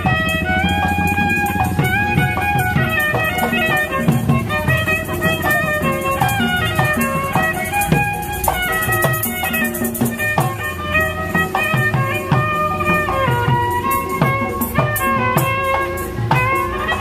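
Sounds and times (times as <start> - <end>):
bowed string melody: 0.0 - 17.0
hand drum beat: 0.0 - 17.0.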